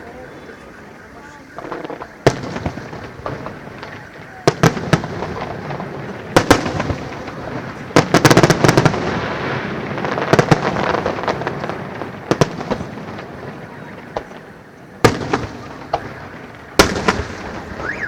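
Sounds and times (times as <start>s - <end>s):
fireworks bursting with bangs: 0.0s - 18.0s
fireworks crackling: 0.0s - 18.0s.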